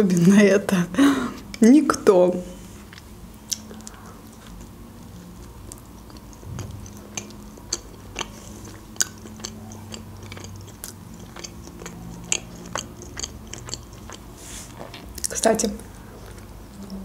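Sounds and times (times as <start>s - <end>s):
close chewing: 2.8s - 17.0s.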